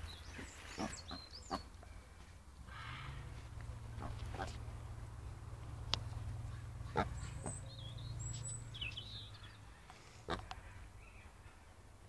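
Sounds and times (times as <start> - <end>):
small birds chirping: 0.0 - 5.0, 5.7 - 11.6.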